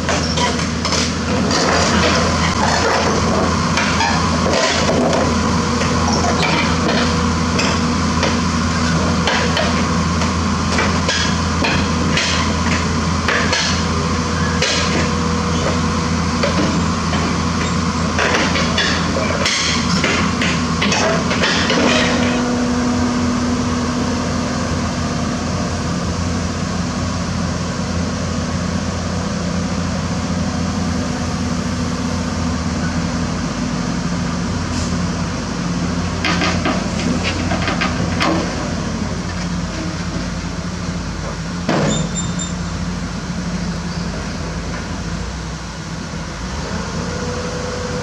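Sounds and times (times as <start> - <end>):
diesel engine running: 0.0 - 48.0
steel tracks clanking: 0.0 - 48.0.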